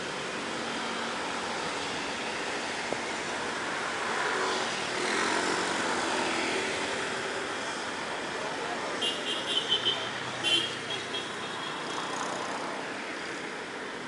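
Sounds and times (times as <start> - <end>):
city traffic noise: 0.0 - 14.0.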